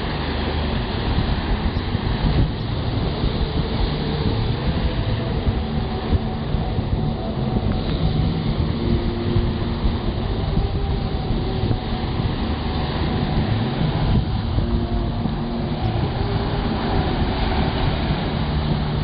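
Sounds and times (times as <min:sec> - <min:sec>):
surf breaking on beach: 0:00.0 - 0:19.0
wind rumbling on microphone: 0:00.0 - 0:19.0.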